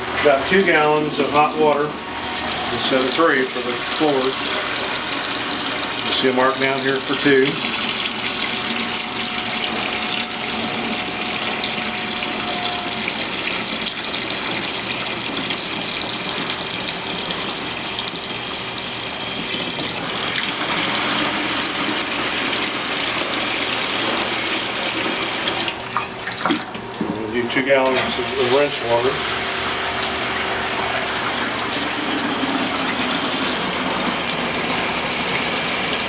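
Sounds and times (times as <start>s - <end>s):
water pouring into bucket: 0.5s - 27.5s, 28.1s - 36.0s.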